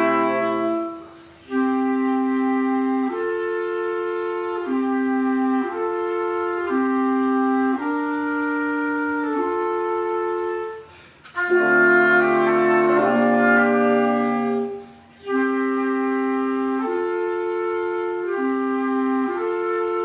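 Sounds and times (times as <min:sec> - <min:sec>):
low bassoon notes: 0:00.0 - 0:20.0
woodwind quintet playing chords: 0:00.0 - 0:20.0.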